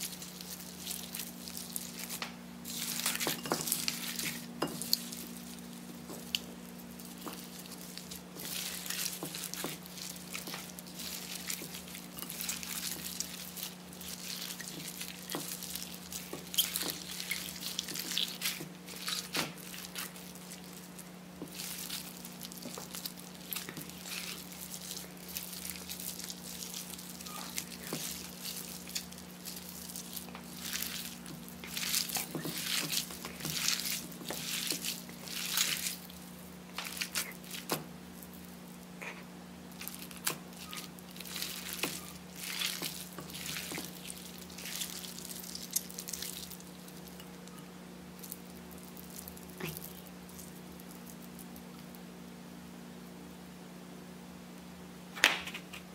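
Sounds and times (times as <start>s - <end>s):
slime squelching: 0.0s - 51.9s.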